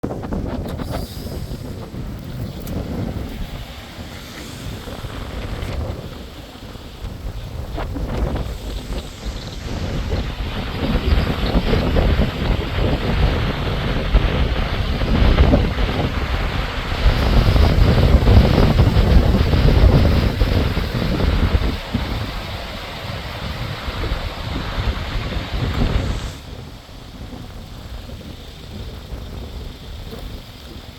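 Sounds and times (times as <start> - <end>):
rough water rushing: 0.0 - 29.6
wind buffeting microphone: 0.0 - 30.9.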